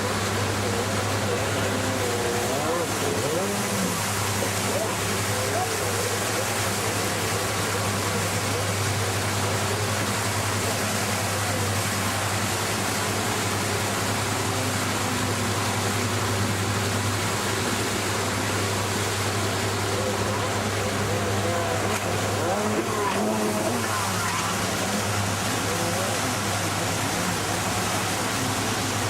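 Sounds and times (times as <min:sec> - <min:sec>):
jet ski engine running: 0:00.0 - 0:29.0
water wash: 0:00.0 - 0:29.0.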